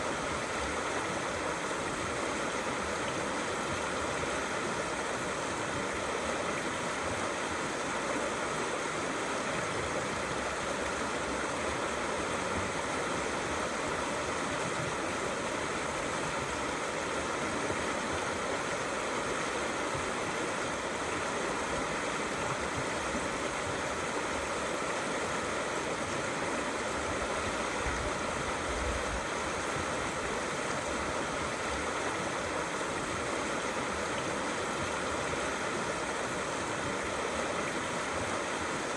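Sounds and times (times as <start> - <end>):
river water rushing and gurgling: 0.0 - 38.9.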